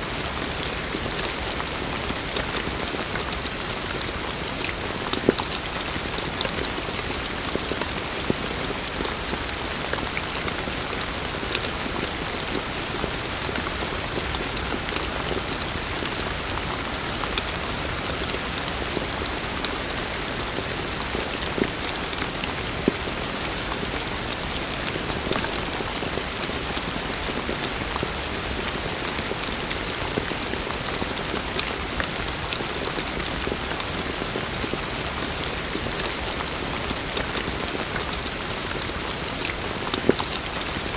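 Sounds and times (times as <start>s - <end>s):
heavy rain falling: 0.0s - 40.9s
raindrops striking close by: 0.0s - 40.9s.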